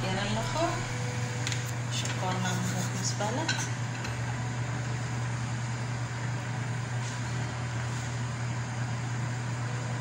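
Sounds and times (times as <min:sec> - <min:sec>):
low droning hum: 0:00.0 - 0:10.0.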